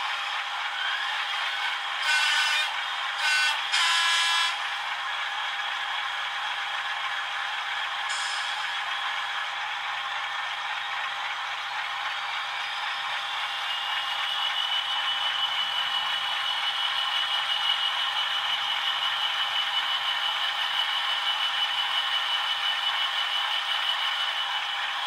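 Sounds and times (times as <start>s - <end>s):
model train engine sounds: 0.0s - 25.0s.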